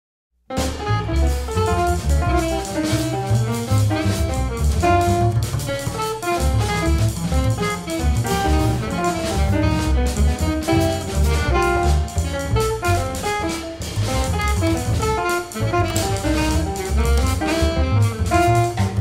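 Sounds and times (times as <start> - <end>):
alto saxophone: 0.5 - 19.0
double bass: 0.5 - 19.0
drum kit hits: 0.5 - 19.0
piano: 0.5 - 19.0.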